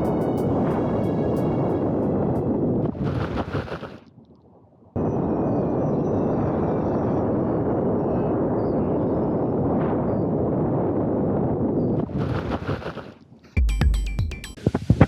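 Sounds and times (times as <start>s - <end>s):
rushing wind: 0.0s - 13.4s.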